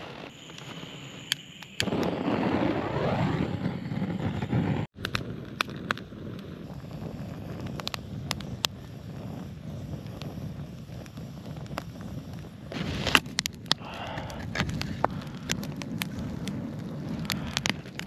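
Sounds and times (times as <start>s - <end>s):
butane torch hissing: 0.0s - 4.9s, 6.0s - 18.0s
kindling fire crackling and popping: 0.0s - 18.0s.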